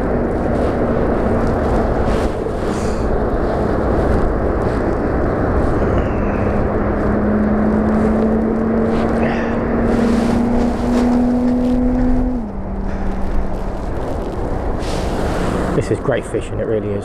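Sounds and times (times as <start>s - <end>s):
engine passing by: 0.0s - 17.0s
steady rushing noise: 0.0s - 17.0s.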